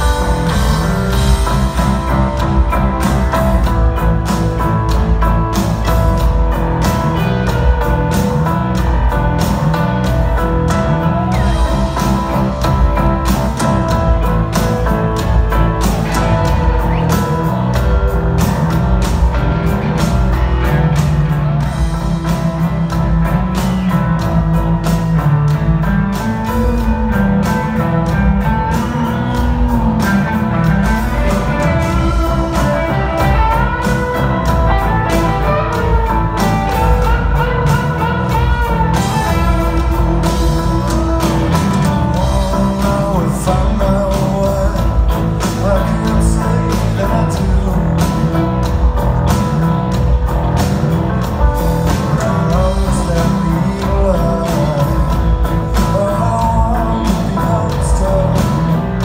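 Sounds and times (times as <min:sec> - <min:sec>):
person singing: 0:00.0 - 0:50.1, 0:51.8 - 0:59.0
bass: 0:00.0 - 0:59.0
distorted electric guitars: 0:00.0 - 0:59.0
drums: 0:00.0 - 0:59.0.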